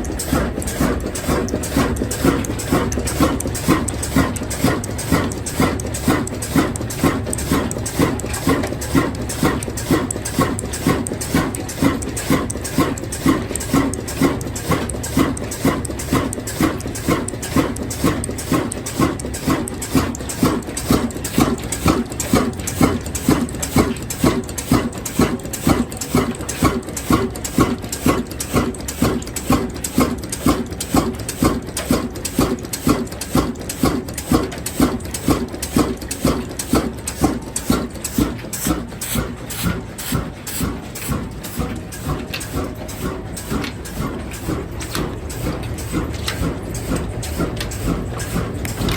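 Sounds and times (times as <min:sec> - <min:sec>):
diesel engine chugging: 0:00.0 - 0:48.9.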